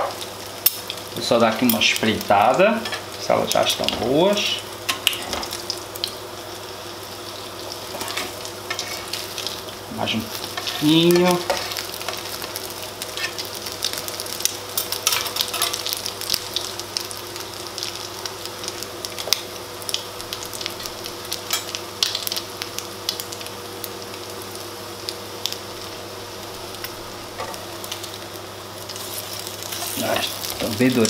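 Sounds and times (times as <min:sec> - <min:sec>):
bread frying with crackling pops: 0:00.0 - 0:31.0.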